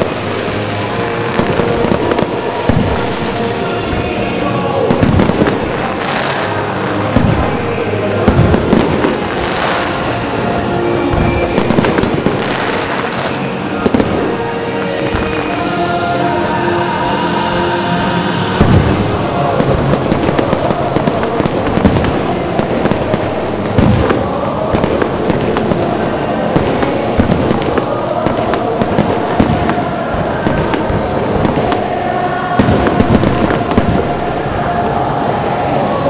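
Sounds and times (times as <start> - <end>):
fireworks bursting with crackling: 0.0 - 36.0.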